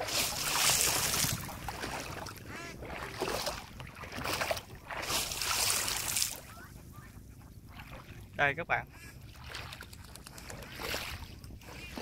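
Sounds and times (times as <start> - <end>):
feet splashing through water: 0.0 - 6.8, 7.4 - 8.4, 9.0 - 12.0.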